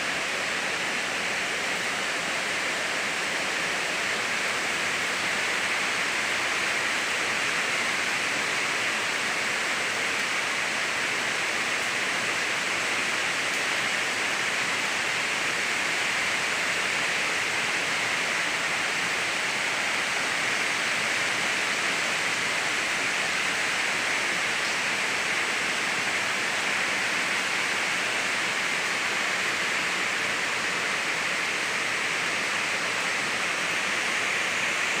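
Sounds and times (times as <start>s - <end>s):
rainwater pouring into pond: 0.0s - 35.0s.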